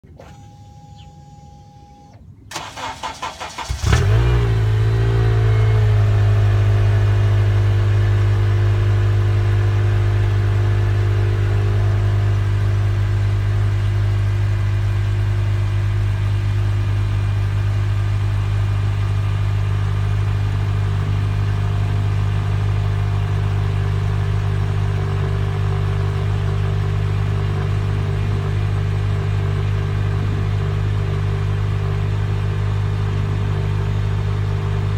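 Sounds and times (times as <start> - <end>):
car engine deep idle: 2.5 - 34.9.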